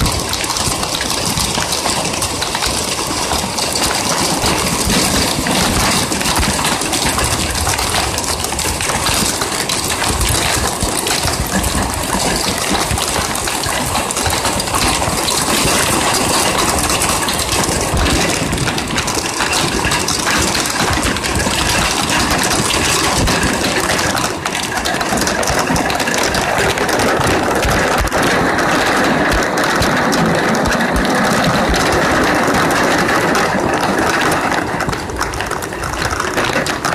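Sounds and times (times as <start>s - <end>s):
heavy rain drumming: 0.0s - 36.9s.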